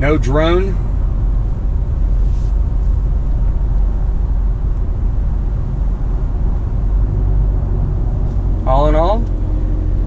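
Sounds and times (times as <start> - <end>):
car engine low rumble: 0.0 - 10.0
road noise: 0.0 - 10.0.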